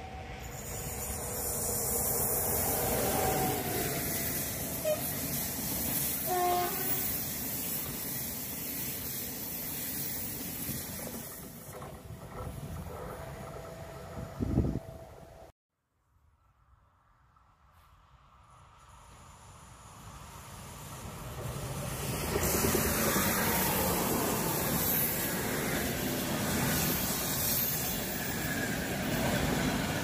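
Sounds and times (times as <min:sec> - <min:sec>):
train passing at speed: 0:00.0 - 0:15.5, 0:17.0 - 0:30.0.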